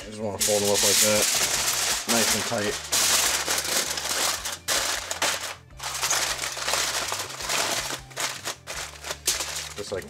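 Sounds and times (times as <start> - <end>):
aluminium foil crinkling: 0.4 - 10.0.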